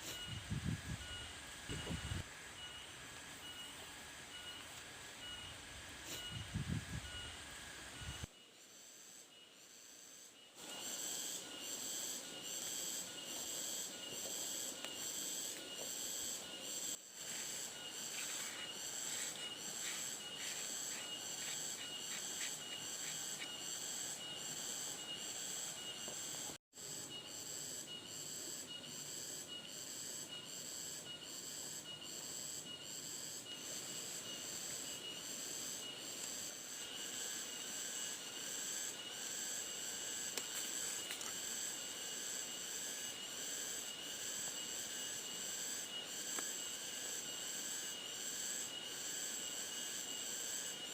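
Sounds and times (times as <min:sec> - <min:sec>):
insects pulsing chorus: 0:00.0 - 0:50.9.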